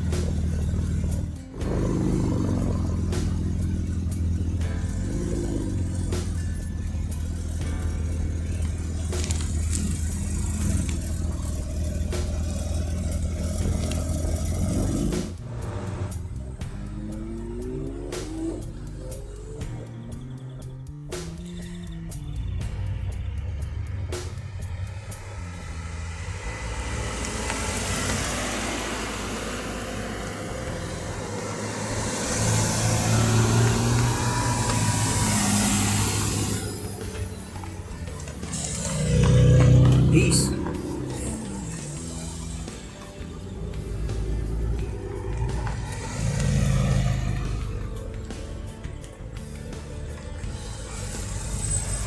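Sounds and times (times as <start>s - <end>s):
engine revving up: 0.0s - 52.0s
rally car engines rumbling: 0.0s - 52.0s.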